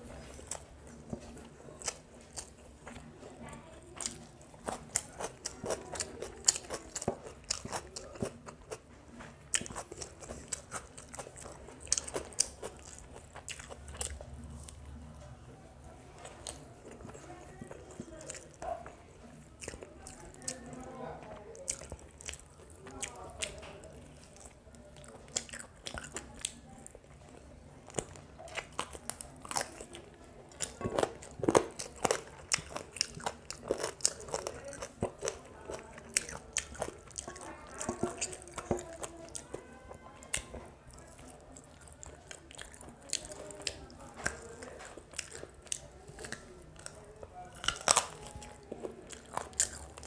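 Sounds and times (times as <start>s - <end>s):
chewing with smacks and clicks: 0.0s - 50.0s.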